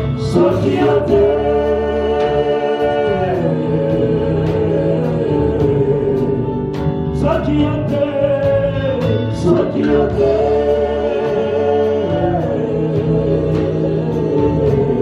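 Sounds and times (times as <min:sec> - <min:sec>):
bass and drum beat: 0:00.0 - 0:15.0
gospel song with voices: 0:00.0 - 0:15.0.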